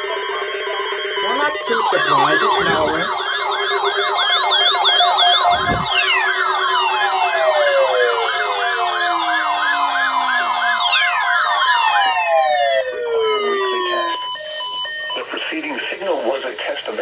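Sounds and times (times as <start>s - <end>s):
alarm tones sweeping down: 0.0s - 15.4s
warbling siren-like alarm: 0.0s - 16.3s.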